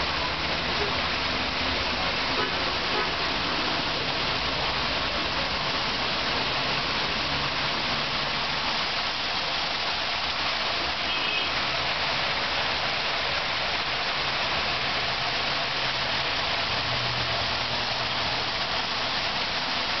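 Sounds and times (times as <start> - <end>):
water pouring and splashing: 0.0 - 20.0.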